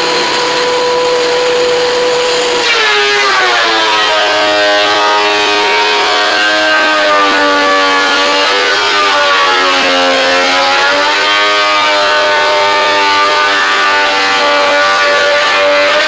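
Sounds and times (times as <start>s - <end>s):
power tool electric motor running: 0.0s - 16.0s.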